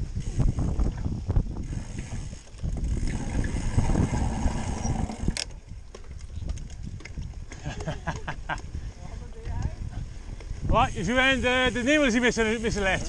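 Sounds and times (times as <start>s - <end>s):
bike tyres rumbling on dirt: 0.0s - 13.0s.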